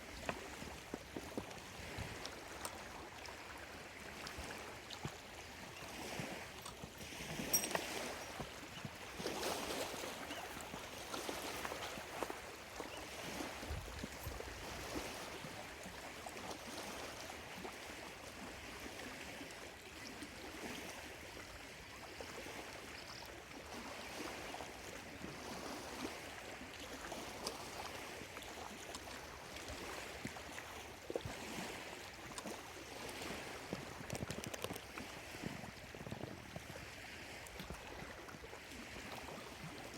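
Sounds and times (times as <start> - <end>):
lake waves lapping shore: 0.0 - 39.9.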